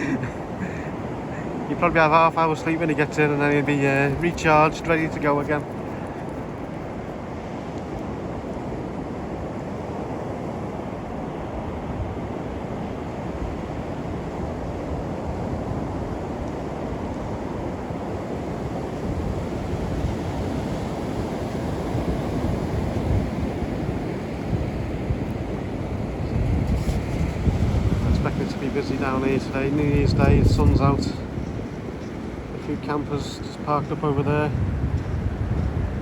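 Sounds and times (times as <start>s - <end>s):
sea surf washing onto beach: 0.0s - 36.0s
wind on microphone: 2.7s - 36.0s.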